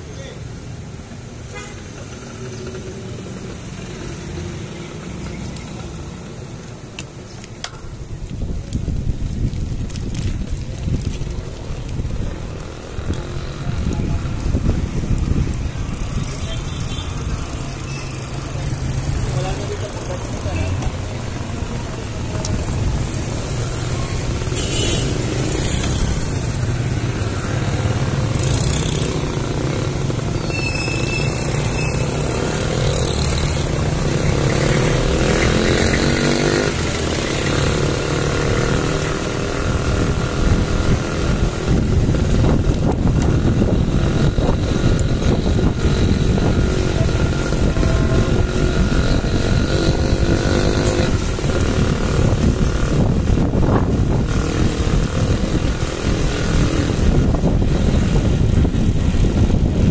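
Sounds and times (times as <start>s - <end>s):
motorcycle engines passing: 0.0s - 59.9s
wind and road noise: 0.0s - 59.9s.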